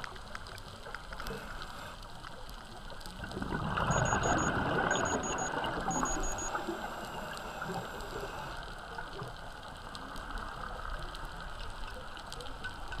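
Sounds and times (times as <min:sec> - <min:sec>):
faint clicks: 0:00.0 - 0:03.2, 0:04.0 - 0:13.0
low underwater rushing: 0:00.1 - 0:12.3.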